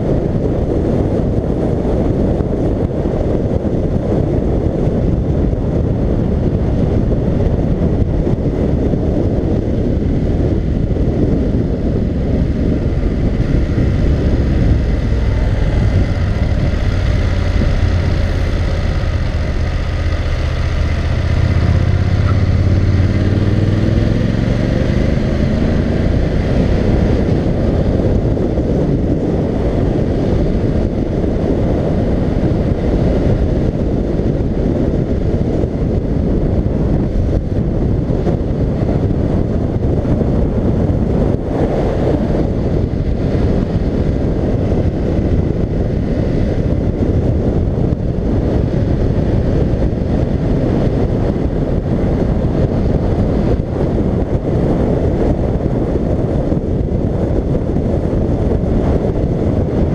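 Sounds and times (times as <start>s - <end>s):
motorcycle engine: 0.0s - 59.9s
wind noise on microphone: 0.0s - 59.9s.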